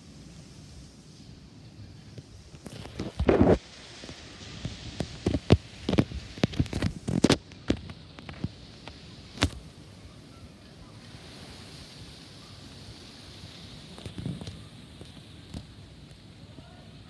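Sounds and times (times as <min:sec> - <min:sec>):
steady hiss: 0:00.0 - 0:17.0
wind blowing: 0:00.0 - 0:17.0.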